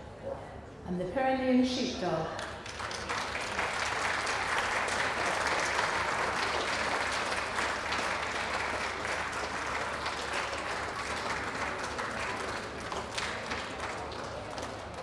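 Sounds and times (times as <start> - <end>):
audience applauding: 2.5 - 15.0.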